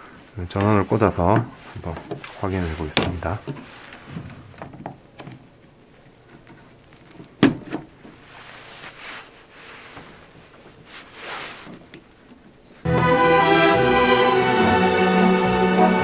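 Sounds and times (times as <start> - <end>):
soft rustling: 0.0 - 12.9.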